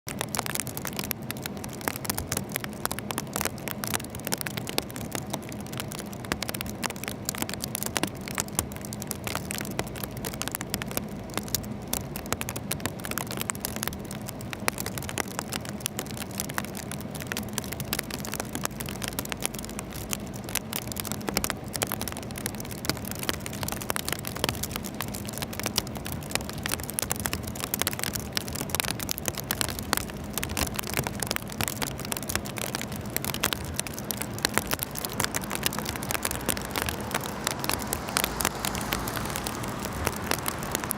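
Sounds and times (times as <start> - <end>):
low car hum: 0.0 - 40.9
rain on a windshield: 0.1 - 40.9.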